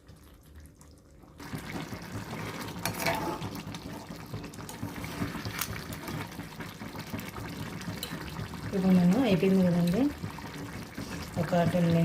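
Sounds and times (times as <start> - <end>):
gravy bubbling in a pan: 0.0 - 12.0.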